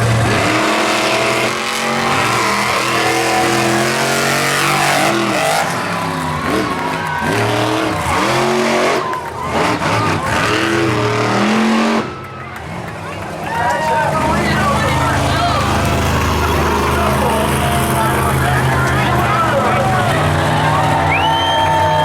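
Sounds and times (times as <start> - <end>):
monster truck engines revving: 0.0 - 22.0.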